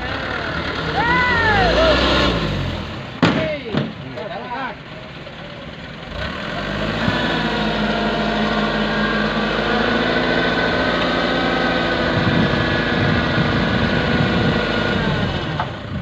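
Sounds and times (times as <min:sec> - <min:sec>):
dump truck diesel engine running: 0:00.0 - 0:16.0.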